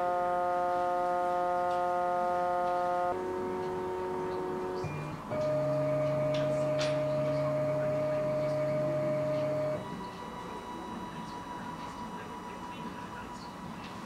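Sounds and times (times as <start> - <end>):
stepper motors whining: 0.0 - 13.7.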